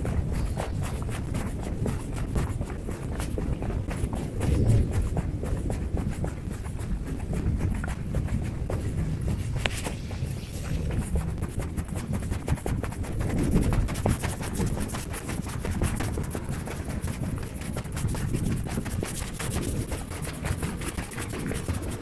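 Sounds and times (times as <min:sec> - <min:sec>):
footsteps with scuffs and crunches: 0:00.0 - 0:22.0
low steady rumble: 0:00.0 - 0:22.0.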